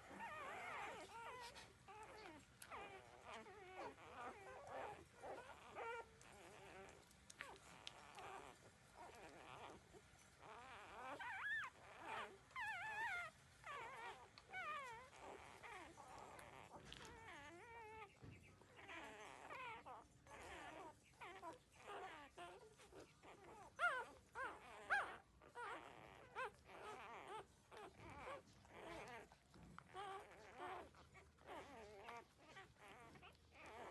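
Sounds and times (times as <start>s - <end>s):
puppies whimpering and squealing: 0.0s - 33.9s.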